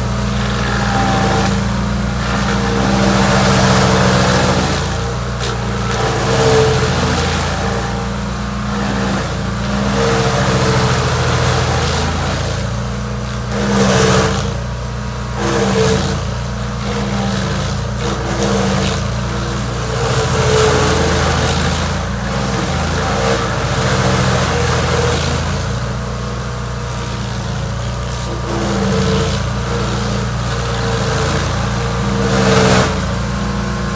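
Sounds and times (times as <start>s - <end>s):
chainsaw engine running: 0.0s - 33.9s.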